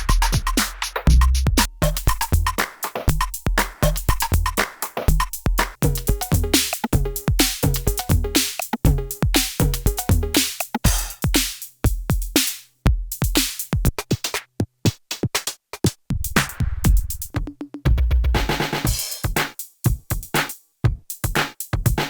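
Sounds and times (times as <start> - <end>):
drum machine beat: 0.0 - 22.0.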